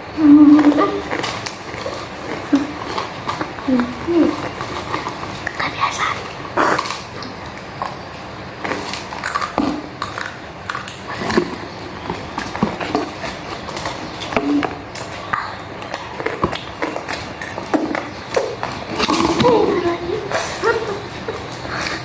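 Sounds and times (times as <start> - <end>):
food being chewed: 0.6 - 22.0.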